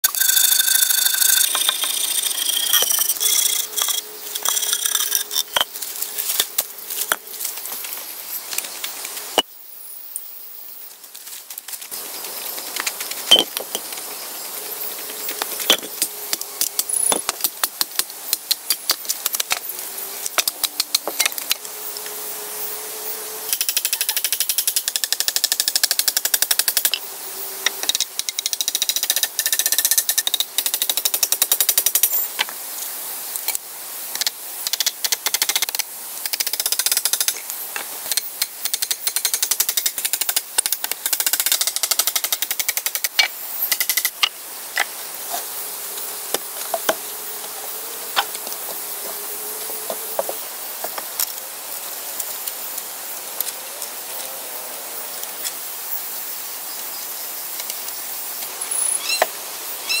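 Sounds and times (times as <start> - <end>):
steady high hiss: 0.0 - 60.0.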